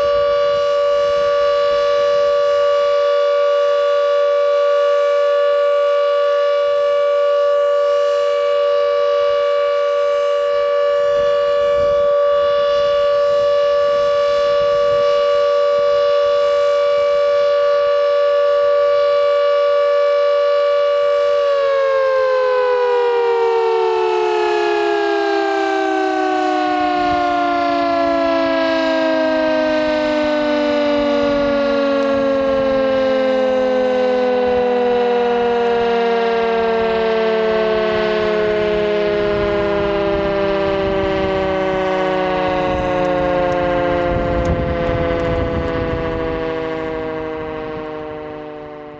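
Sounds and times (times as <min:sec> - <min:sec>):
warning siren winding down: 0:00.0 - 0:48.9.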